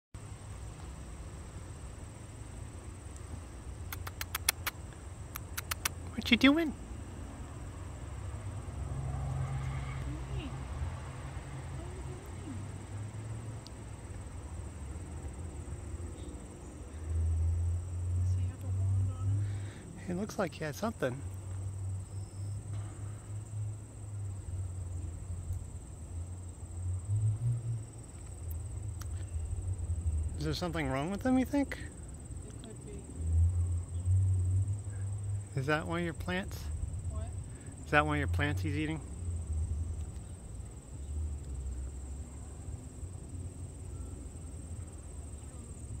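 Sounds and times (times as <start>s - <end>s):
high insect drone: 0.2s - 46.0s.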